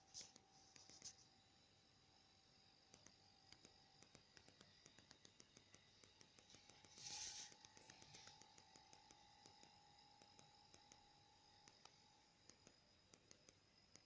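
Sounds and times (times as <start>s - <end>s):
faint rapid clicking: 0.0s - 14.0s.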